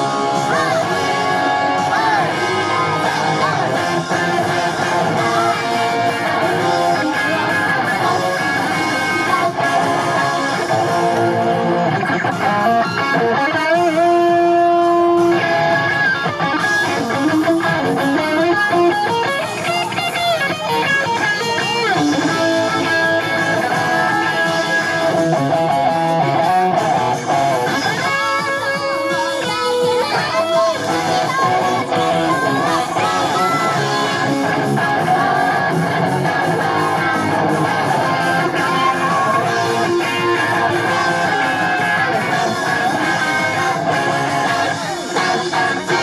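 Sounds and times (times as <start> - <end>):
electric guitar lead lines: 0.0 - 46.0.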